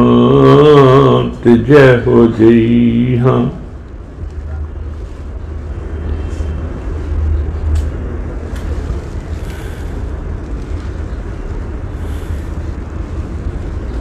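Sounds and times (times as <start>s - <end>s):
faint hiss: 0.0s - 14.0s
steady low rumble: 0.0s - 14.0s.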